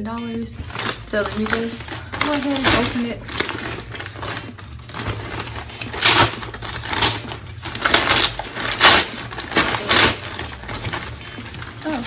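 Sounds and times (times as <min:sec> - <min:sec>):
packaging tearing and rustling: 0:00.6 - 0:12.0.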